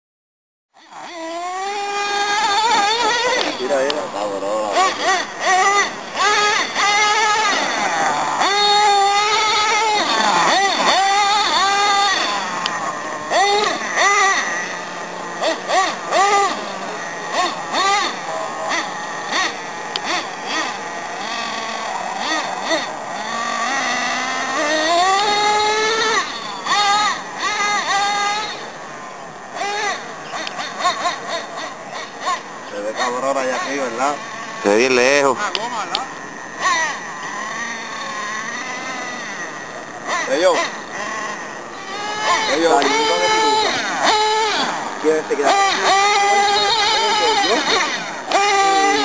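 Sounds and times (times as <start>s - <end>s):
small engine revving: 0.7s - 49.0s.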